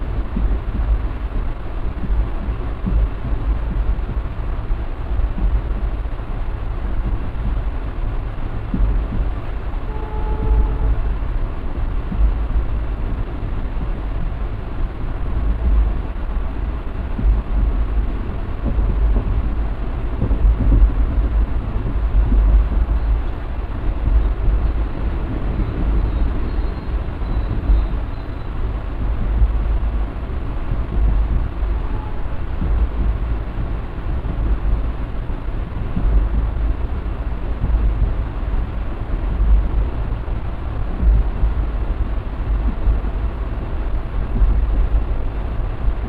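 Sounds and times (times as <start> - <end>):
train coach rumbling: 0.0 - 46.0.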